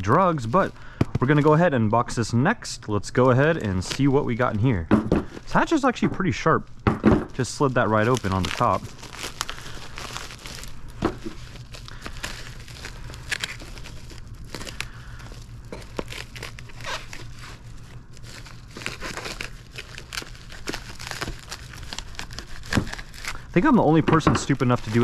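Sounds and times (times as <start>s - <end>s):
plastic packaging crinkling and tearing: 0.0s - 25.0s.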